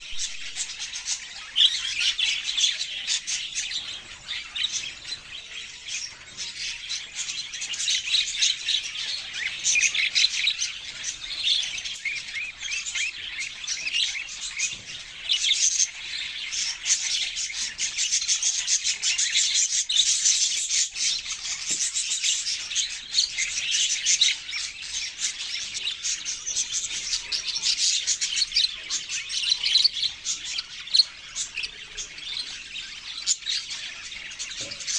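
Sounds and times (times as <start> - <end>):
budgerigars chirping: 0.0 - 34.9.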